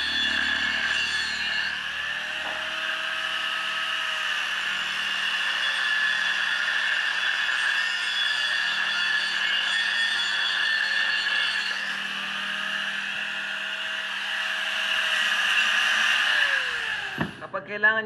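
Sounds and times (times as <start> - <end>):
angle grinder cutting steel: 0.0 - 17.4.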